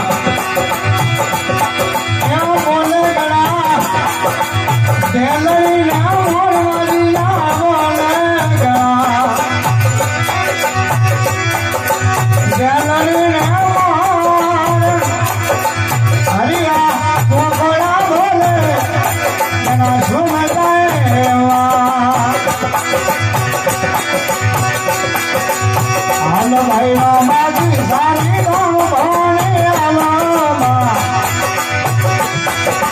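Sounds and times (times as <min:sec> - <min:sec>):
hand drum beat: 0:00.0 - 0:32.9
held instrumental notes: 0:00.0 - 0:32.9.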